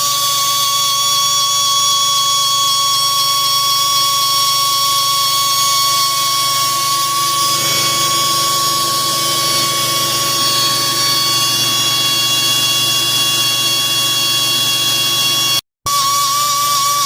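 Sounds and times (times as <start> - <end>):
grinder whining: 0.0 - 17.0.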